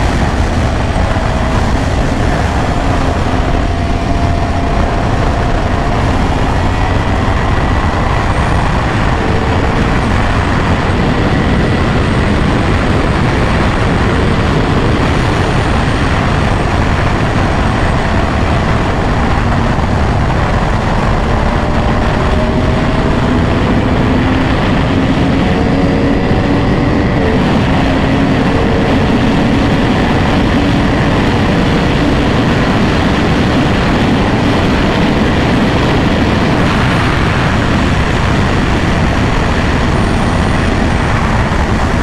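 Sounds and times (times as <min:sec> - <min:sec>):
motorcycle engine running: 0:00.0 - 0:42.0
wind rushing over microphone: 0:00.0 - 0:42.0.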